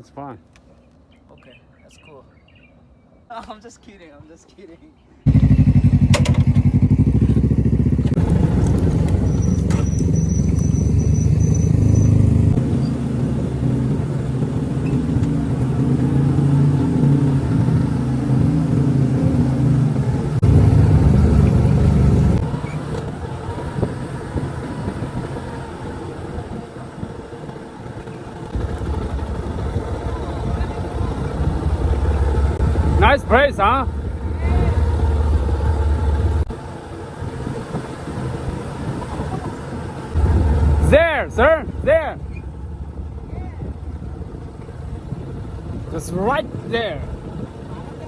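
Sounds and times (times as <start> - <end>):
motorcycle engine running: 5.3 - 48.0.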